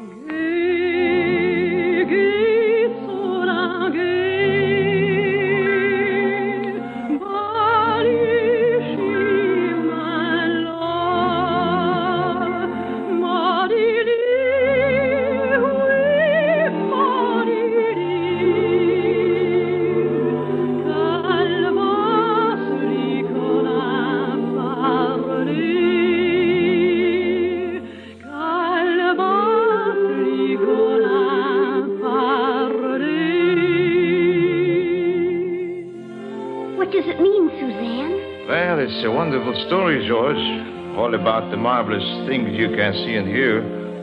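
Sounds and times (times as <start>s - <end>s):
orchestral accompaniment: 0.0s - 44.0s.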